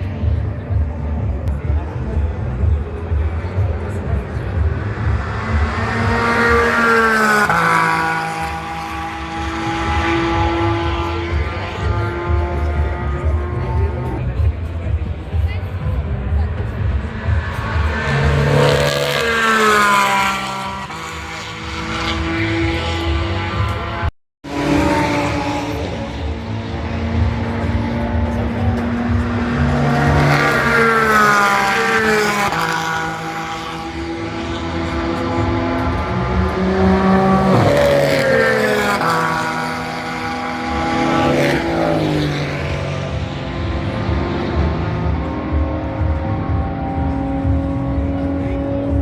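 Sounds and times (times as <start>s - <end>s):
racing car engine running hard: 0.0s - 49.0s.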